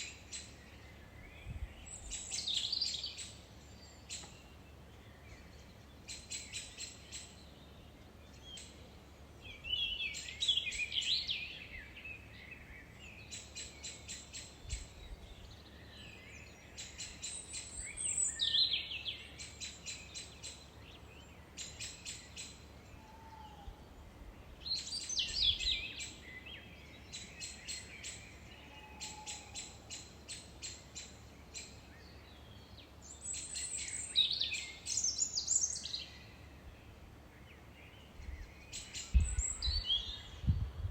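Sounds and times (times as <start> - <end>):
faint background hiss: 0.0 - 40.9
songbird singing: 0.0 - 40.9.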